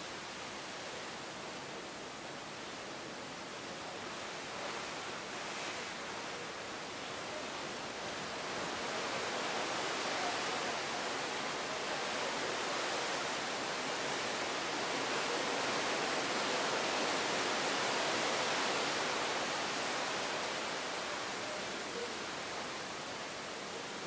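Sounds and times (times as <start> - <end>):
sea water rushing along ship hull: 0.0 - 24.0.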